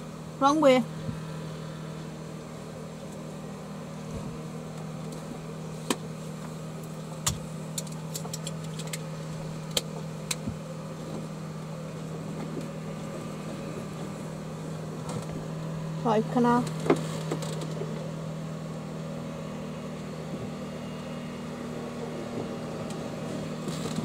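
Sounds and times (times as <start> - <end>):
boat engine humming: 0.0 - 24.0.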